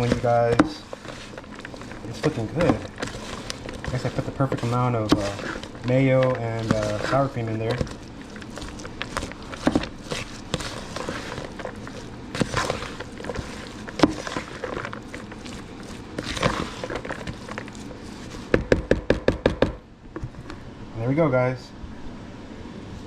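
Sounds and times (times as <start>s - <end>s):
spoon mixing coleslaw: 0.0s - 19.3s.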